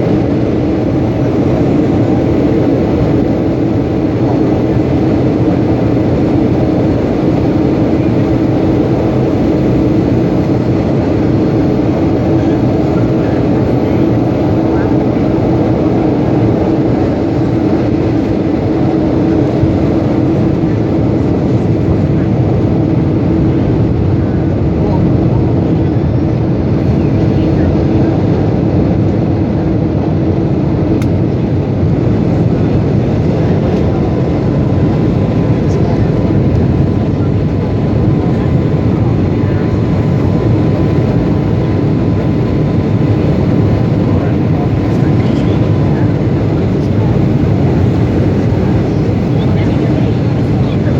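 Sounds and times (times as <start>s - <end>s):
airliner engines droning: 0.0s - 50.9s
constant hum: 0.0s - 50.9s.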